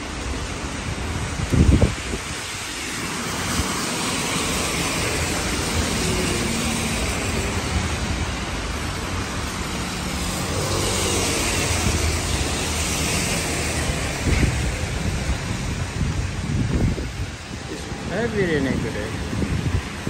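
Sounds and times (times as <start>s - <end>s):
rain hiss: 0.0s - 20.0s
tyres on wet road: 0.0s - 20.0s
passing car engines: 0.1s - 20.0s.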